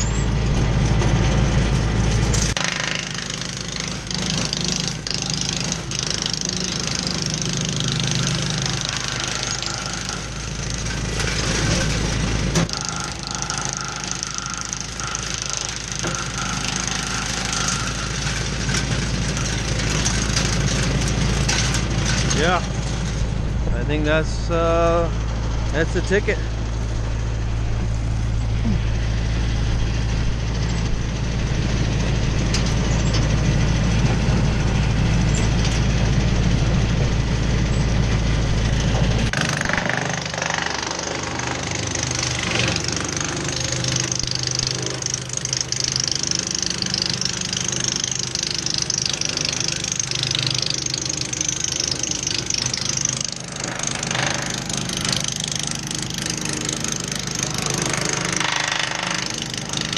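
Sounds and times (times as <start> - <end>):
tractor engine deep hum: 0.0 - 59.9
wood chipper hissing noise: 2.1 - 59.9.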